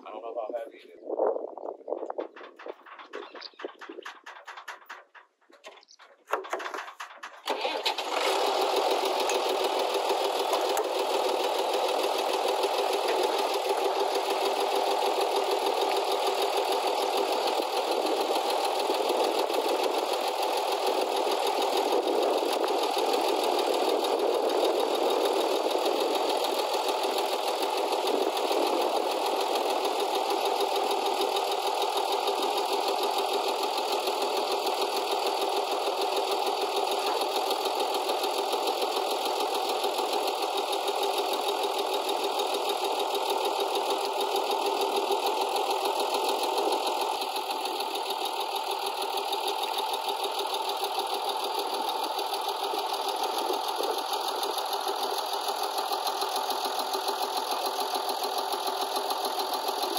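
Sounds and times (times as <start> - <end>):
tractor diesel engine running: 1.0 - 59.9.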